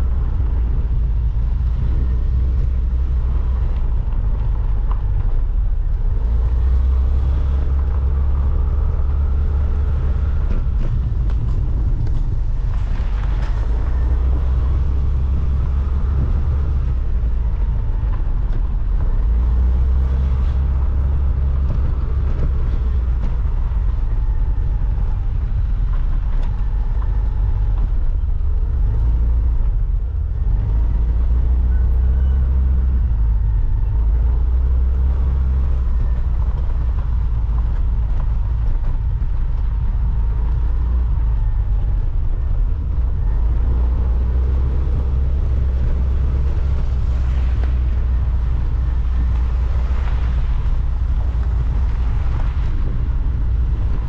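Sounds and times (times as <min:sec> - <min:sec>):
vehicle rumbling on dirt road: 0:00.0 - 0:54.0.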